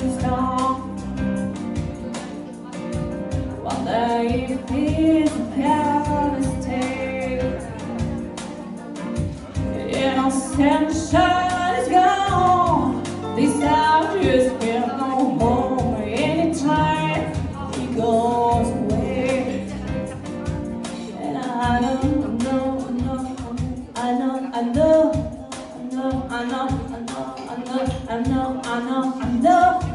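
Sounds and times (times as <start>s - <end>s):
electric keyboard chords: 0.0s - 27.2s
woman singing: 0.0s - 29.9s.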